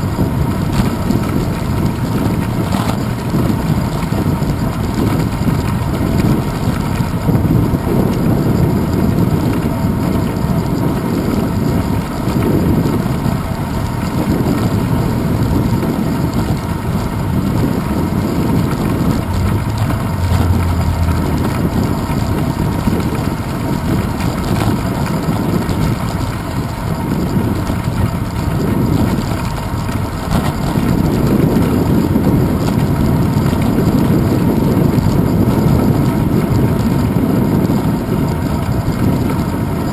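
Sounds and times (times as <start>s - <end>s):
bicycle riding noise: 0.0s - 39.9s
wind buffeting microphone: 0.0s - 39.9s.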